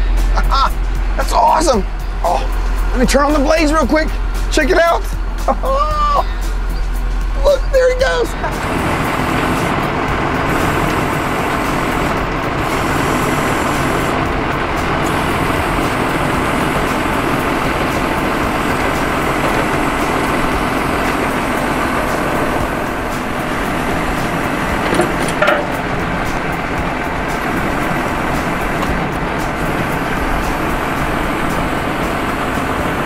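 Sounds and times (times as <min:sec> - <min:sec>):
tractor mower running: 0:00.0 - 0:33.0.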